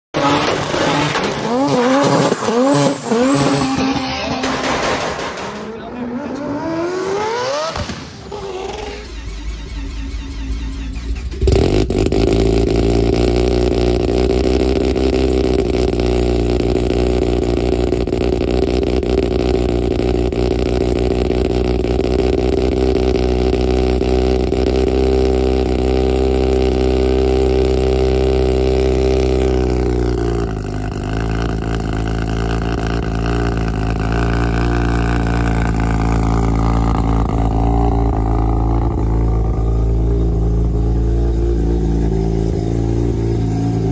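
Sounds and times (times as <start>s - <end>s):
rotary engine running loud: 0.3s - 43.9s.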